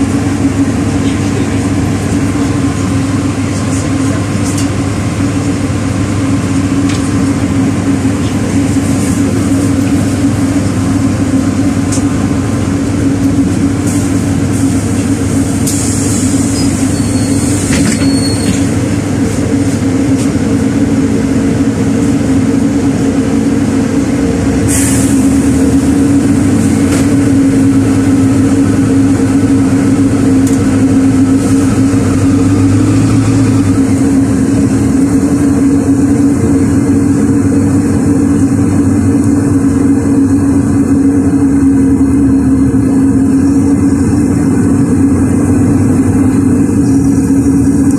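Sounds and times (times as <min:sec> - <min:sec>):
bus engine and drivetrain hum: 0:00.0 - 0:47.9.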